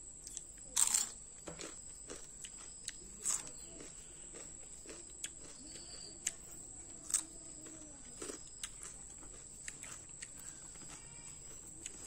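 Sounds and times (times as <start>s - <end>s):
faint high-pitched whine: 0.0s - 12.0s
fingers working rice: 0.0s - 12.0s
sharp clicks while chewing: 0.2s - 12.0s.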